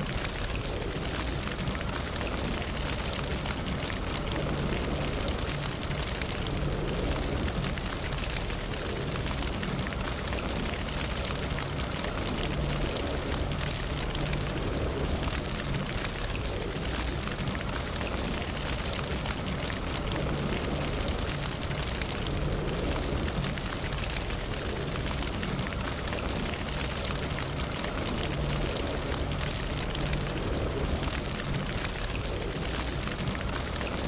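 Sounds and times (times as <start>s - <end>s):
low rumble of flames: 0.0s - 34.0s
wood crackling and popping: 0.0s - 34.0s.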